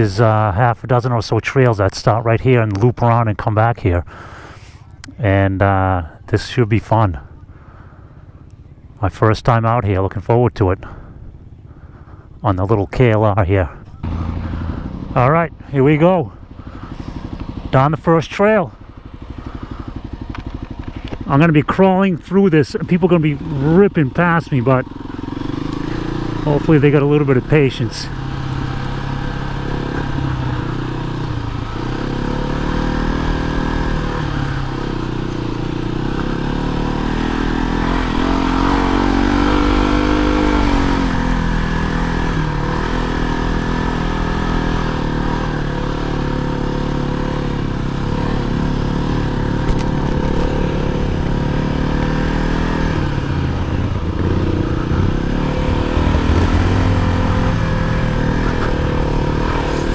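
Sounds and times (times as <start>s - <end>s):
motorcycle engine revving: 10.8s - 59.9s.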